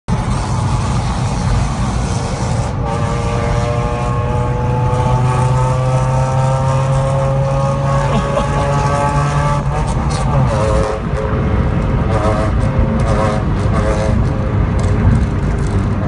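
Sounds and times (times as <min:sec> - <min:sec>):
car exhaust deep drone: 0:00.1 - 0:16.0.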